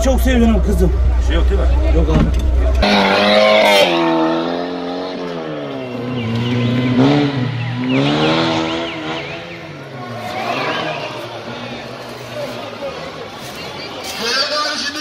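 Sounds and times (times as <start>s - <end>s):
race car engine revving: 0.0s - 13.3s.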